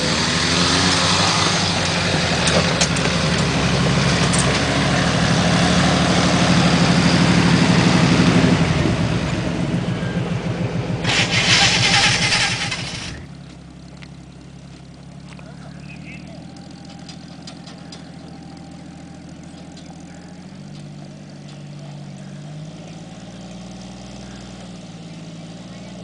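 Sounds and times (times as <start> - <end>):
engine running hard under load: 0.0 - 26.0.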